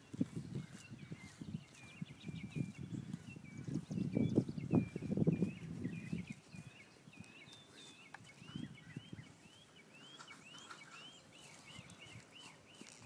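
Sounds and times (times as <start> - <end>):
bird whistling song: 0.7 - 13.0.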